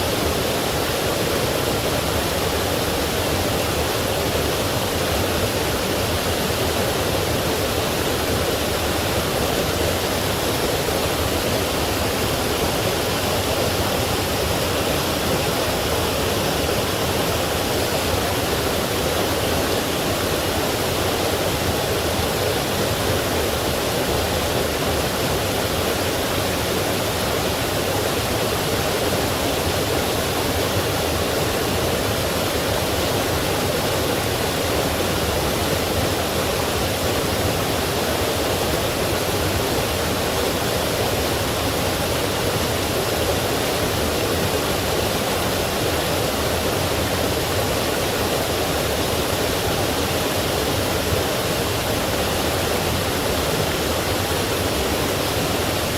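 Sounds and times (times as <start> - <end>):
stream and waterfall rushing: 0.0 - 55.9.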